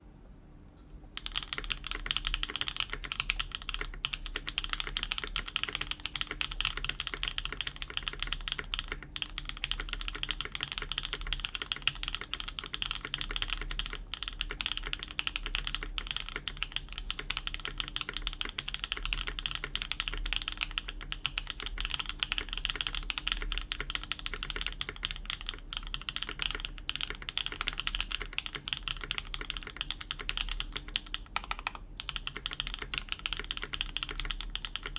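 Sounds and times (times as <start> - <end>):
fast typing on mechanical keyboard: 1.2 - 34.9.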